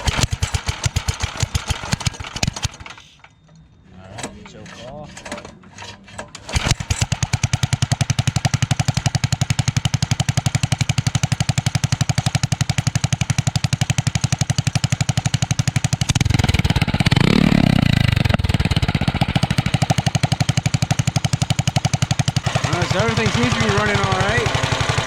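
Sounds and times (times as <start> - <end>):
minibike engine running: 0.0 - 3.3, 6.4 - 25.0.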